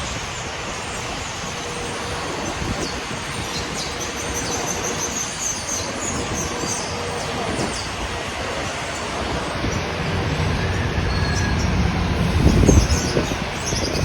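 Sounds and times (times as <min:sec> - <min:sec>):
elevated train rumbling: 0:00.0 - 0:14.0
high wheel squeal: 0:00.1 - 0:14.0.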